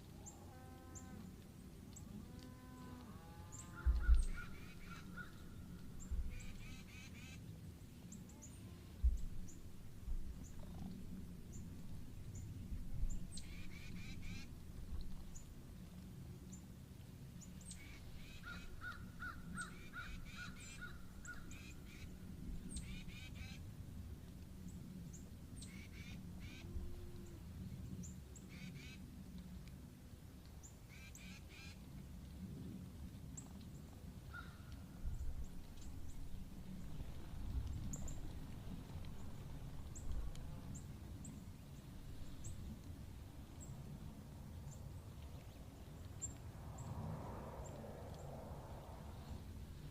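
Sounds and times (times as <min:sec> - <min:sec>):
faint low rumble: 0:00.0 - 0:30.8, 0:31.8 - 0:49.9.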